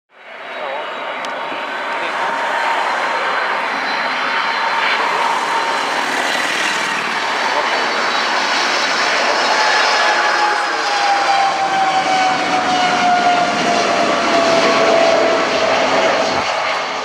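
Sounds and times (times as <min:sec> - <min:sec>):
airliner jet engines rushing: 0:00.2 - 0:17.0.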